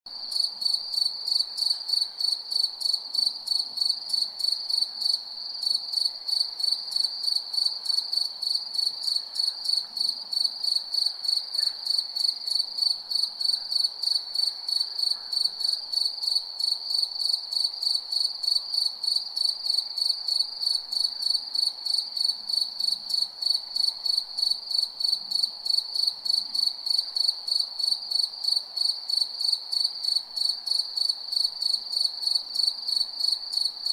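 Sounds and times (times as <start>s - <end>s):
cricket chirping: 0.1s - 33.9s
faint hum of night insects: 0.1s - 33.9s.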